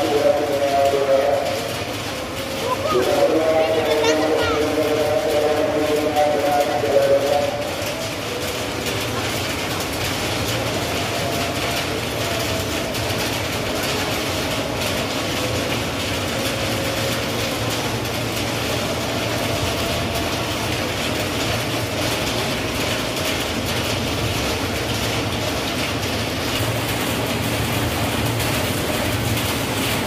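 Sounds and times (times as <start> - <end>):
electric train pulling in: 0.0 - 30.0.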